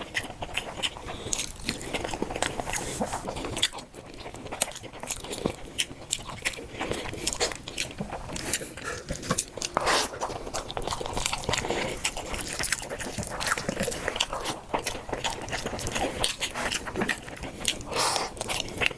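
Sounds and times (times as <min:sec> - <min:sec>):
wet chewing: 0:00.0 - 0:18.9.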